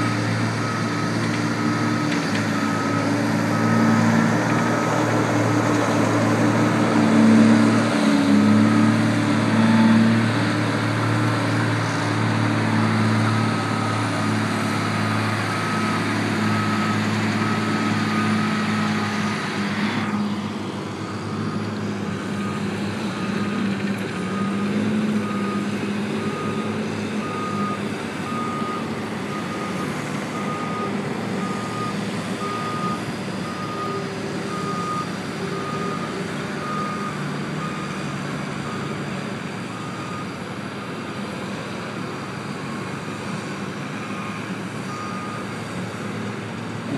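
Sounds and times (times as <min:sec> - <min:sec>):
heavy vehicle engine running: 0:00.0 - 0:46.9.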